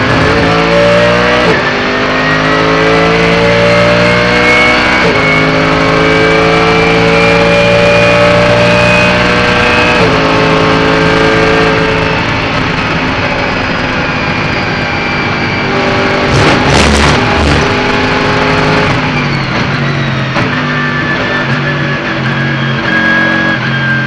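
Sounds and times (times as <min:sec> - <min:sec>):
race car engine running loud: 0:00.0 - 0:24.0.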